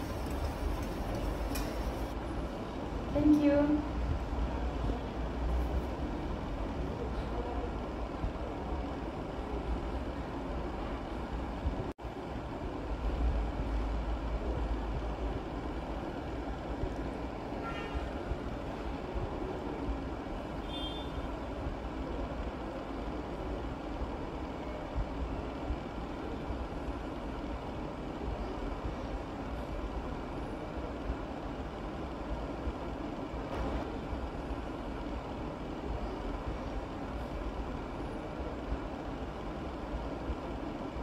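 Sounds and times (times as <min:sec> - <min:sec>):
low rumbling background noise: 0:00.0 - 0:41.0.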